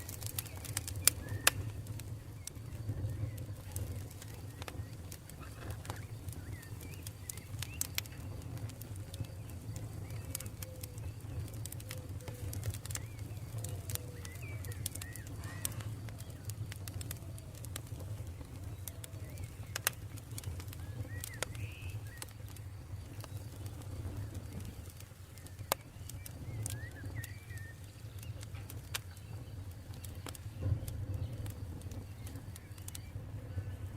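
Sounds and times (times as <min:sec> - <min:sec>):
birds calling gliding notes: 0:00.0 - 0:33.9
campfire crackling and popping: 0:00.0 - 0:33.9.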